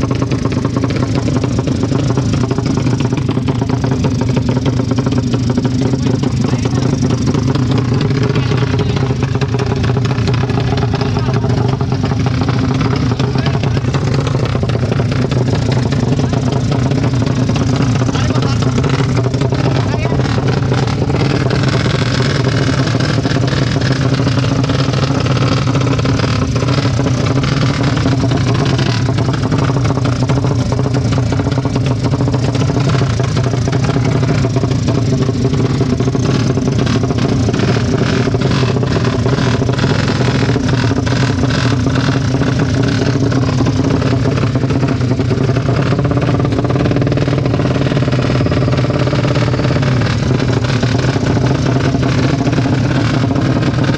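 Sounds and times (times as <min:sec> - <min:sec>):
racing motorcycle engine running: 0:00.0 - 0:53.9.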